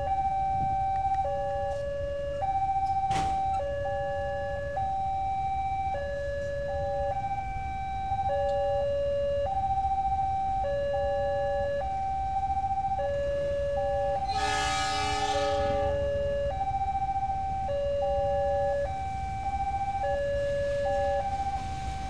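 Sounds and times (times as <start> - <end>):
level crossing warning alarm: 0.0 - 22.0.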